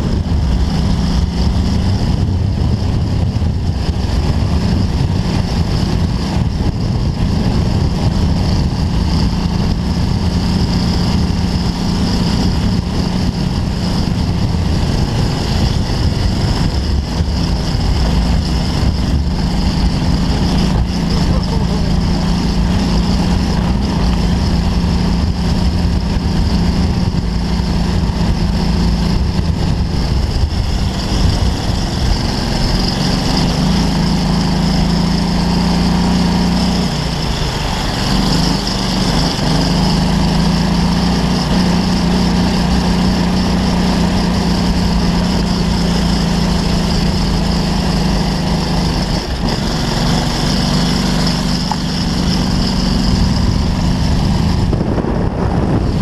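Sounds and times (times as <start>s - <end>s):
buggy engine running: 0.0s - 56.0s.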